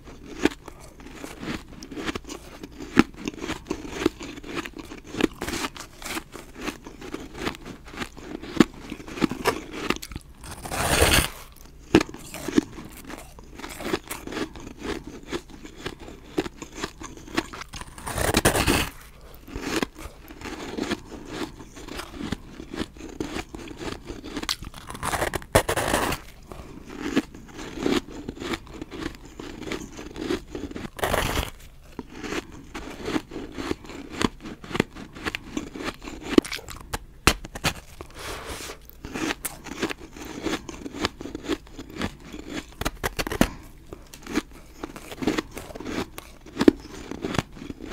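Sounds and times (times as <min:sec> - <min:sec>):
chewing crunchy ice: 0:00.0 - 0:47.9.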